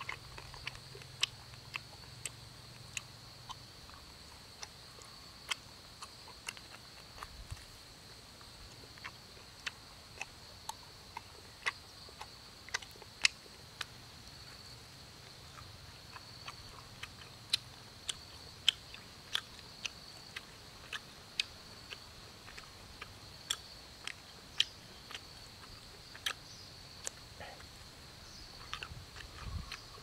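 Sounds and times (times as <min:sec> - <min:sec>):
person chewing meat: 0:00.0 - 0:30.0.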